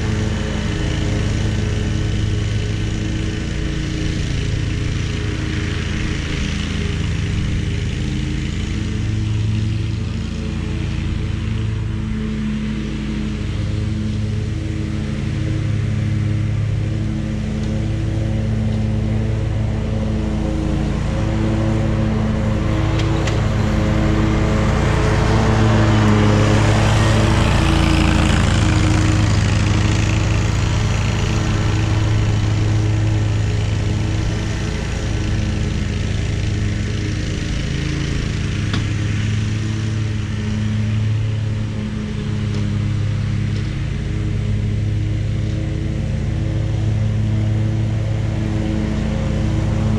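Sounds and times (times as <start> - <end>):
lawn mower engine cutting grass: 0.0 - 49.9.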